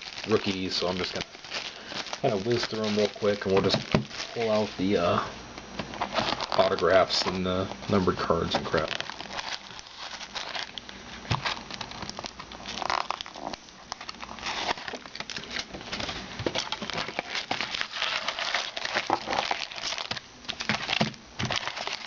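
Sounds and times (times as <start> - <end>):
crinkling card packs: 0.0 - 22.0.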